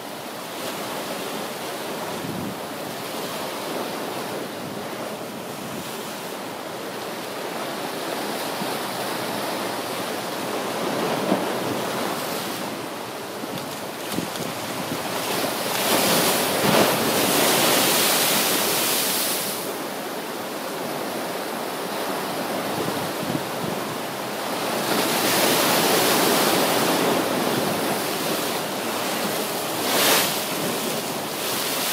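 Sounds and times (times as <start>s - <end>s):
rough surf waves breaking: 0.0s - 31.9s
strong wind: 2.0s - 19.8s, 22.2s - 31.9s.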